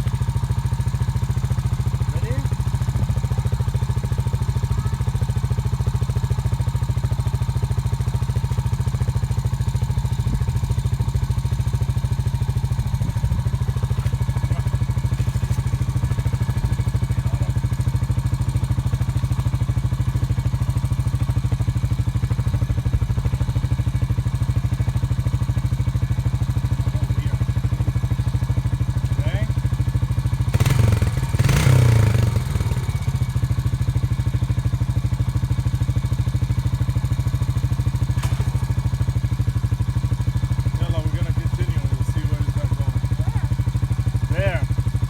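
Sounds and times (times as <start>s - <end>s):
vehicle engine running steadily: 0.0s - 45.0s.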